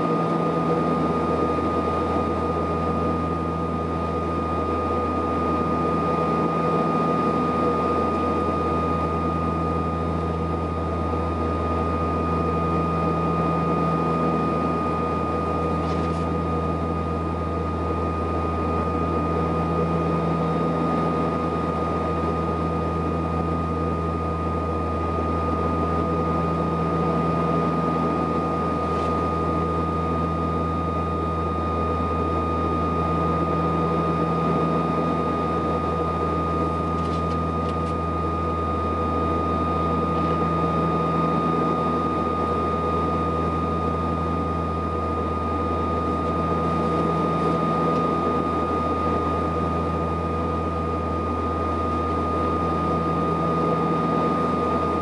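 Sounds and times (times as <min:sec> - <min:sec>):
turboprop engine drone: 0:00.0 - 0:55.0.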